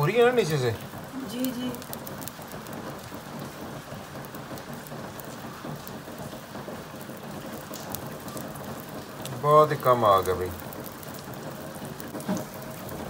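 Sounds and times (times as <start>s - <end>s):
omelette sizzling in oil: 0.0s - 13.0s.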